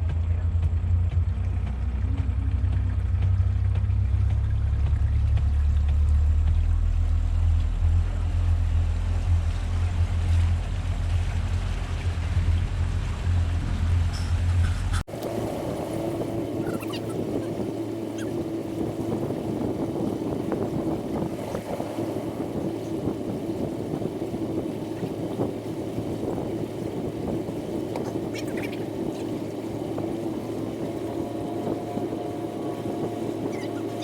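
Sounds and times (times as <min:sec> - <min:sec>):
boat motor running: 0:00.0 - 0:34.0
rushing water wash: 0:01.4 - 0:34.0.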